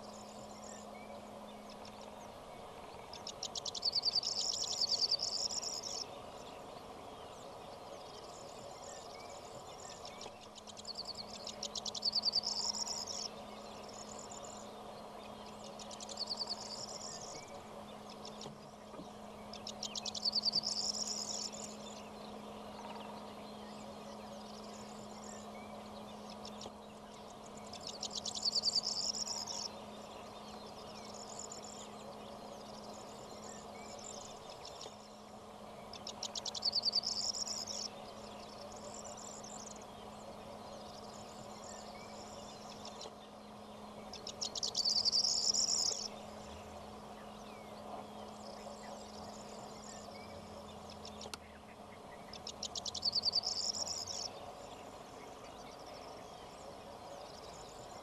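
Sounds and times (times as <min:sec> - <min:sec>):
low hum: 0:00.0 - 0:58.0
songbird trilling: 0:02.9 - 0:06.4, 0:07.2 - 0:58.0
insects chirring: 0:03.0 - 0:06.4, 0:07.8 - 0:23.3, 0:24.2 - 0:46.6, 0:52.3 - 0:58.0.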